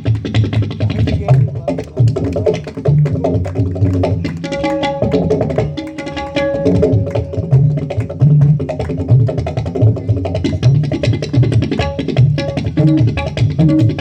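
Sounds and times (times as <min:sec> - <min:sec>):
tabla drumming: 0:00.0 - 0:14.0.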